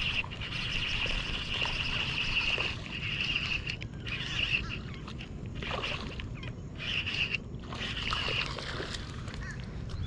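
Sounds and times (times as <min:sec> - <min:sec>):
fish splashing and thrashing: 0:00.0 - 0:09.9.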